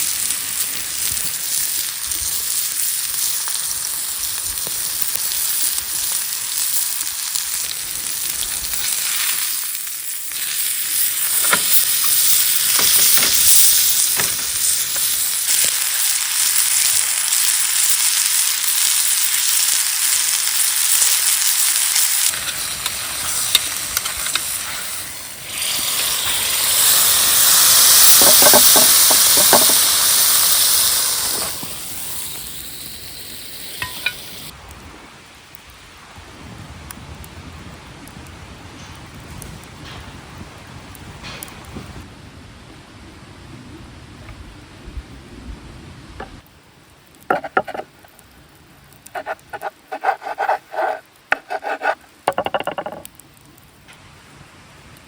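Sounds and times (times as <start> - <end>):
steak sizzling over campfire: 0.0 - 42.0, 46.3 - 55.0
fire crackles: 0.0 - 55.0.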